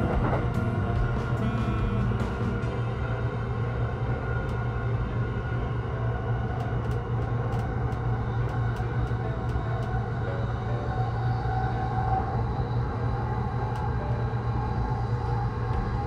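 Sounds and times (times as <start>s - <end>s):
electric train rumble and hum: 0.0s - 16.0s.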